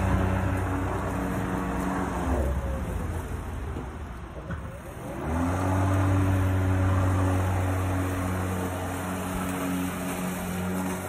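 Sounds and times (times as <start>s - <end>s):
electric lawnmower motor running: 0.0s - 11.0s.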